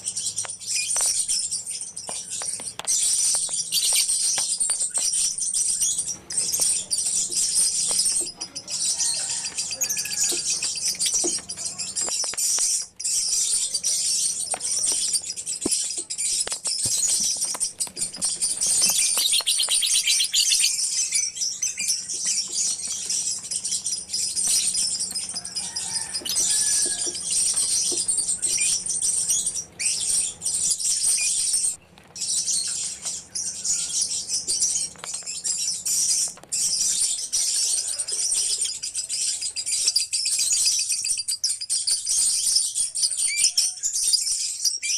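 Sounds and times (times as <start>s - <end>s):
lovebirds chirping and chattering: 0.0s - 44.9s.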